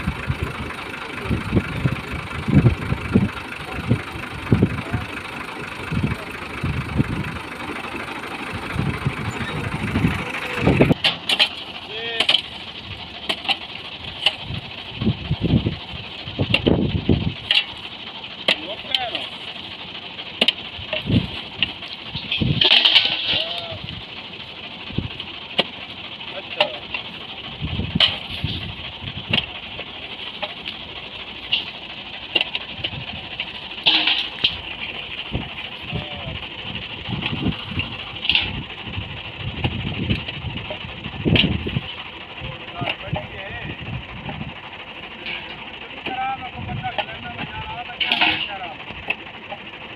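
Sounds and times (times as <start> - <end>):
thresher belts running: 0.0 - 49.9
tractor diesel engine running: 0.0 - 49.9.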